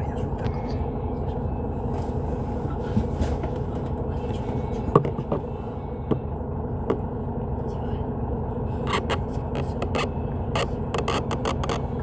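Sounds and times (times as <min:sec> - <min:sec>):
coach engine and road drone: 0:00.0 - 0:12.0.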